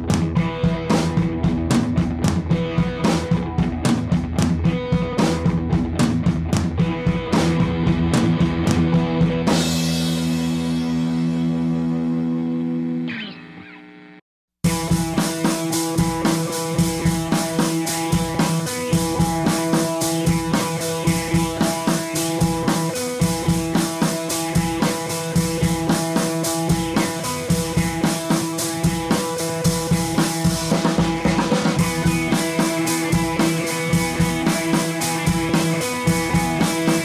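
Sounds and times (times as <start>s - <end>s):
rock music with drums: 0.0s - 14.0s, 14.6s - 37.0s.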